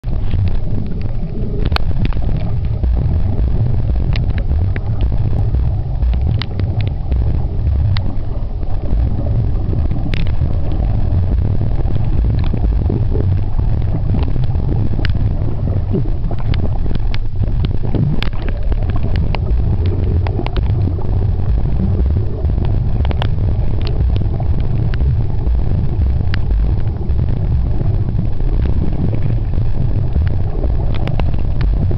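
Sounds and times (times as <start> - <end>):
muffled underwater rumble: 0.0 - 31.9
sharp underwater clicks: 0.0 - 31.9.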